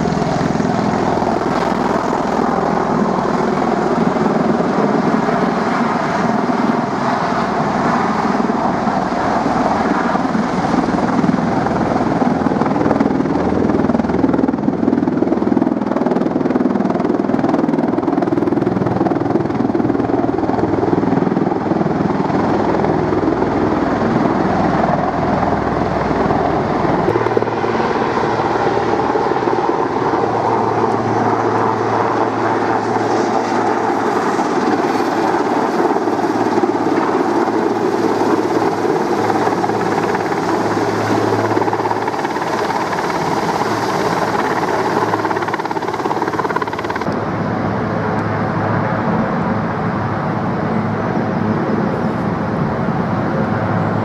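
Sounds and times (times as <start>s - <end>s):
aircraft rotor and turbine noise: 0.0s - 54.0s.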